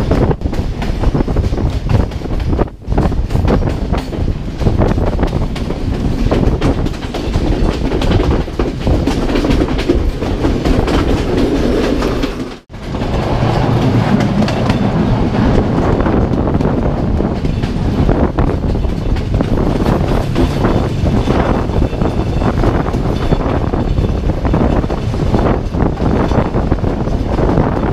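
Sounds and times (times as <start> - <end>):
train wheels clacking on rails: 0.0 - 27.9.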